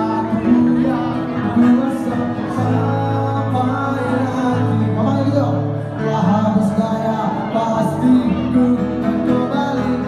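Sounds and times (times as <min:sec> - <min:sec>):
guitar: 0:00.0 - 0:10.0
man singing into microphone: 0:00.0 - 0:10.0.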